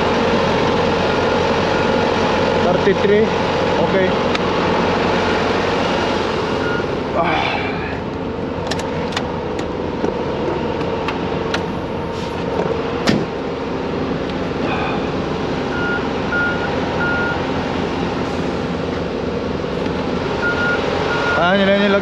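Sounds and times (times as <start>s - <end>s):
truck idling: 0.0s - 22.0s.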